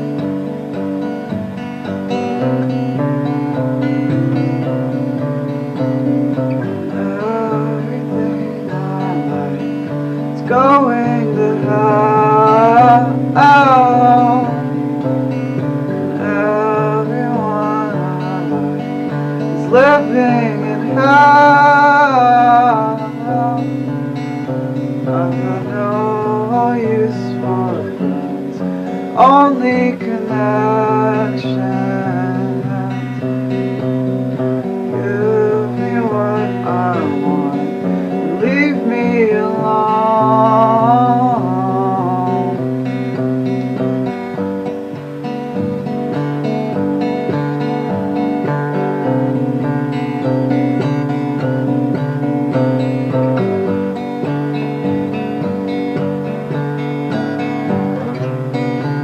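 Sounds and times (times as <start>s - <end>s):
acoustic guitar chords: 0.0s - 59.0s
person singing: 0.0s - 59.0s.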